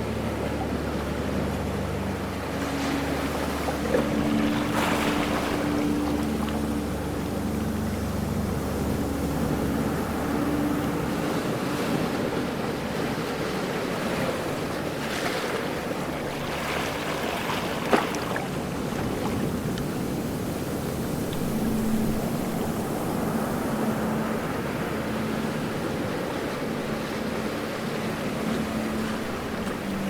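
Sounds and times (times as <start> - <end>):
ocean waves on shore: 0.0 - 30.0.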